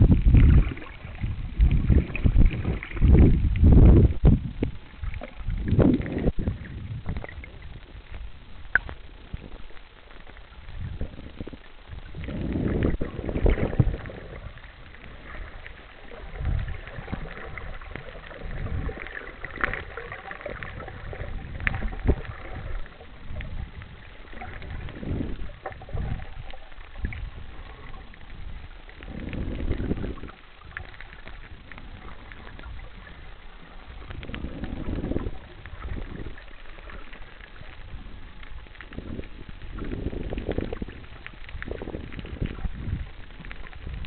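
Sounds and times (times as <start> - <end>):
muffled underwater sloshing: 0.0 - 44.0.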